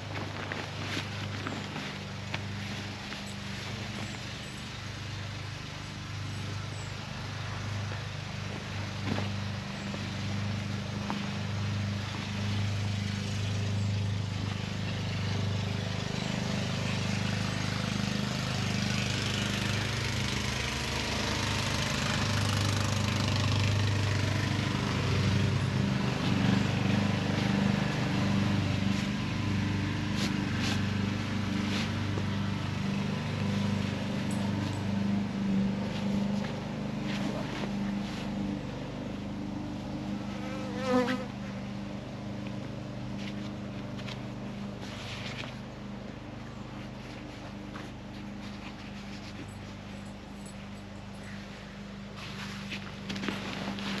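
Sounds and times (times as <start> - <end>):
small engine humming: 0.0 - 54.0.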